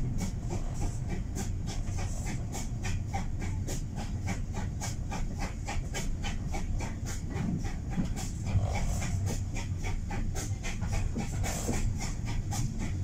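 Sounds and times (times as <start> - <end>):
carriage rumbling on rails: 0.0 - 13.0
steam locomotive chuffing: 0.0 - 13.0.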